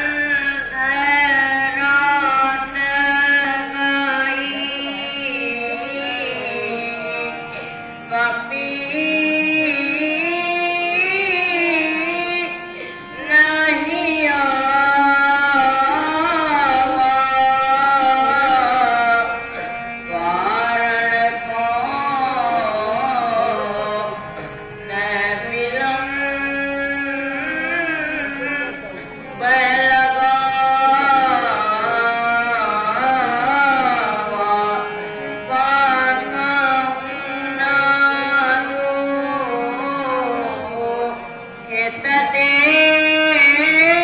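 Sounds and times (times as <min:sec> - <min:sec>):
instrumental accompaniment: 0:00.0 - 0:44.0
person singing a lament: 0:00.0 - 0:44.0.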